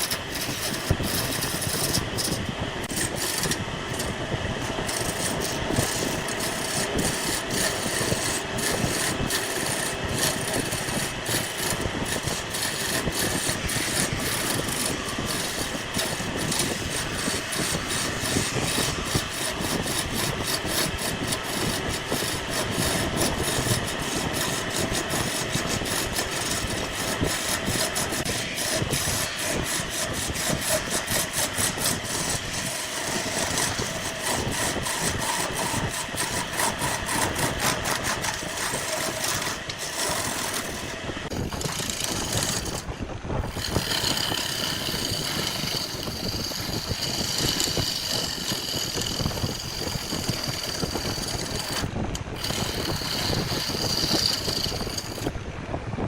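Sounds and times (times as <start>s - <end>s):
chainsaw cutting through log: 0.0s - 55.3s.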